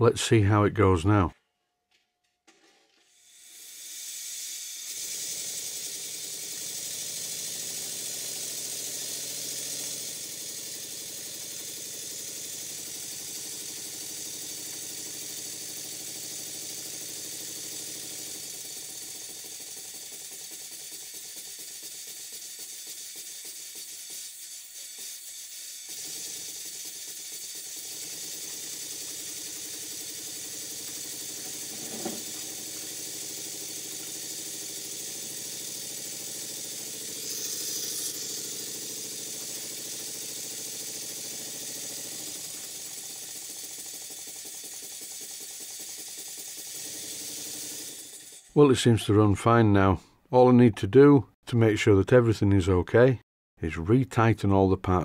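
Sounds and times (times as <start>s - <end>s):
model engine mechanical beat: 2.5s - 49.1s.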